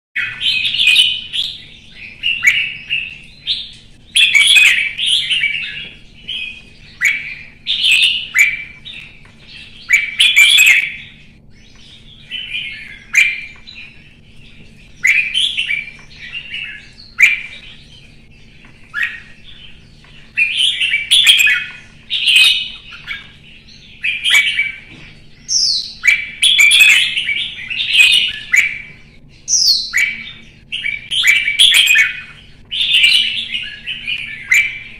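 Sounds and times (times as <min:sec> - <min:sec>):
bird chirping phrases: 0:00.2 - 0:34.9.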